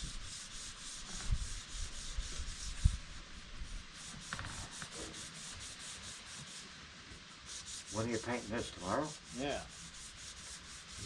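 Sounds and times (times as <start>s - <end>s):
sandpaper rubbing on metal panel: 0.0s - 6.7s, 7.4s - 11.0s.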